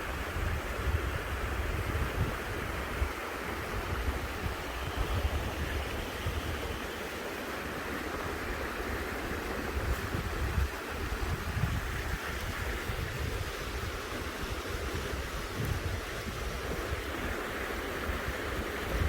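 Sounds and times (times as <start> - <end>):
small creek running: 0.0 - 19.0
wind gusting on microphone: 0.0 - 19.0.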